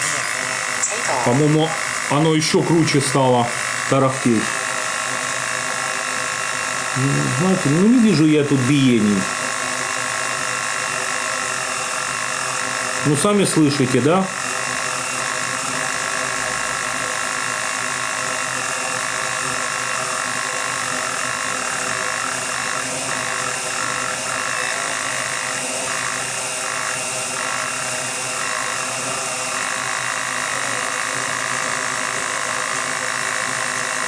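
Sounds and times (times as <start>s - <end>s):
motor rattle: 0.0s - 34.0s
small motors whining: 0.0s - 34.0s.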